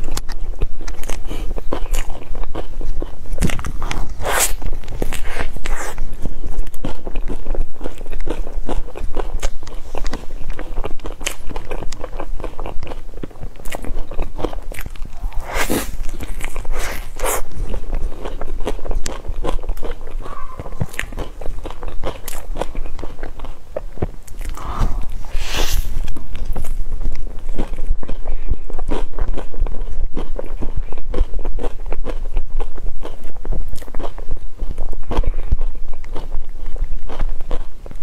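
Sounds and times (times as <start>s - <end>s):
biting and chewing: 0.0s - 38.0s
mouth clicks and smacks: 0.0s - 38.0s.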